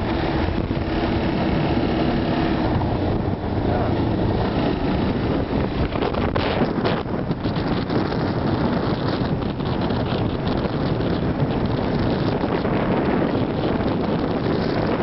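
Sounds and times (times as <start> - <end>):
quad bike engine running: 0.0 - 15.0
wind buffeting microphone: 0.0 - 15.0.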